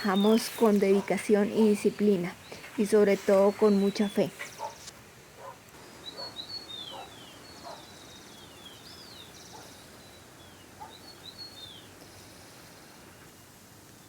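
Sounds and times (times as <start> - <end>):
lower bird calls: 0.0 - 13.5
birds chirping: 0.0 - 13.6
steady ambient hiss: 0.0 - 14.0.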